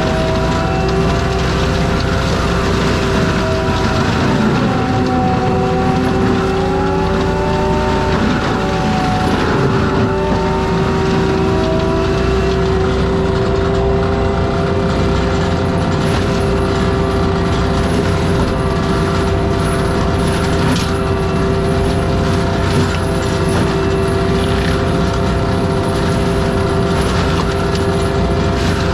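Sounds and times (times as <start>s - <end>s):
track loader mulcher drone: 0.0s - 28.9s.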